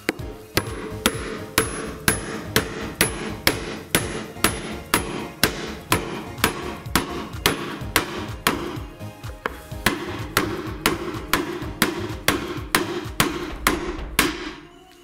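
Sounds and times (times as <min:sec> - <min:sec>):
hammer striking metal with ring: 0:00.0 - 0:08.9, 0:09.8 - 0:14.7.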